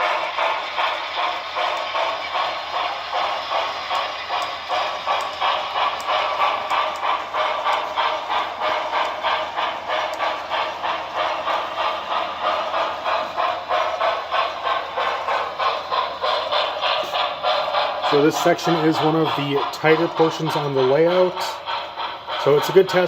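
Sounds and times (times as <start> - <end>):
model locomotive steam chuffs: 0.0 - 23.0.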